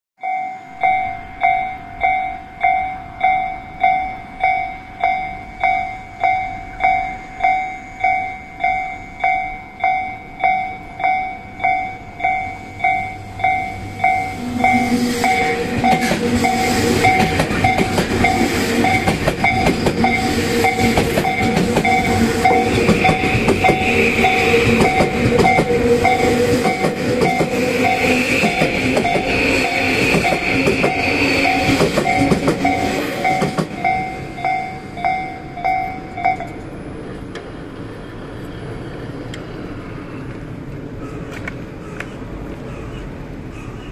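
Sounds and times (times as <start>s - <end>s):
level-crossing bell clanging: 0.2s - 36.8s
electric train passing: 0.2s - 43.7s.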